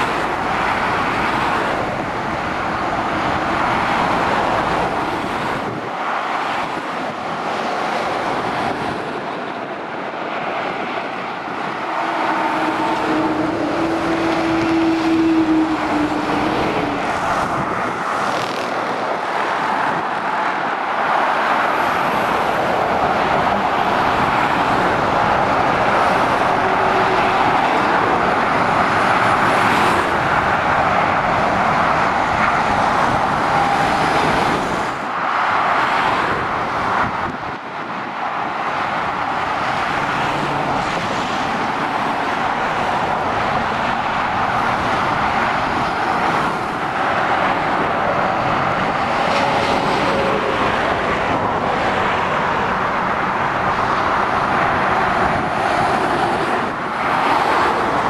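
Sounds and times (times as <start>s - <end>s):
motorway traffic passing: 0.0s - 58.0s.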